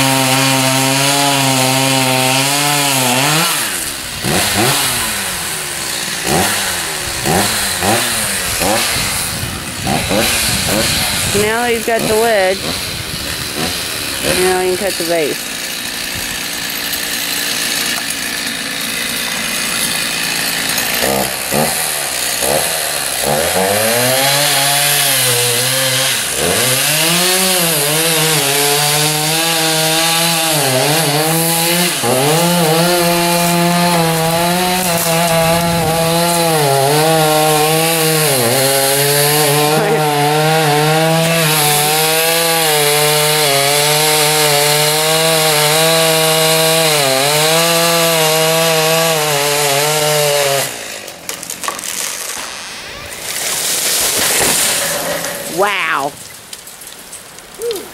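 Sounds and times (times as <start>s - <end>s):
chainsaw cutting tree trunk: 0.0s - 57.9s.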